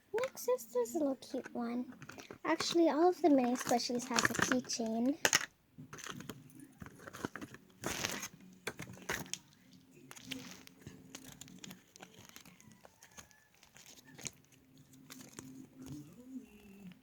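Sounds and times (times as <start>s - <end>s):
plastic packaging crinkling: 1.2s - 17.0s.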